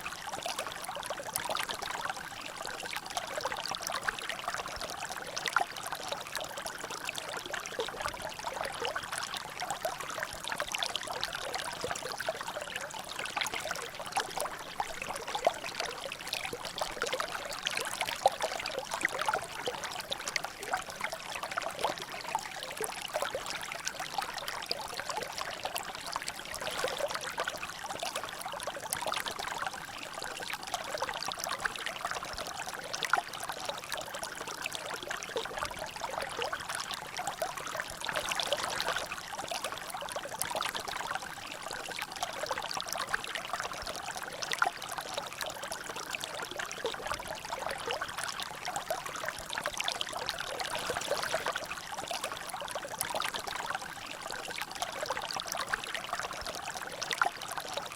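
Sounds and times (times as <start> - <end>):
water trickling and dripping: 0.0 - 57.9.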